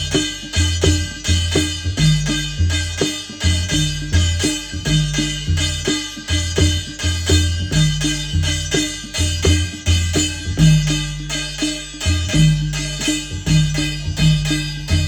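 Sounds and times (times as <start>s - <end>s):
hand drums beating: 0.0s - 15.0s.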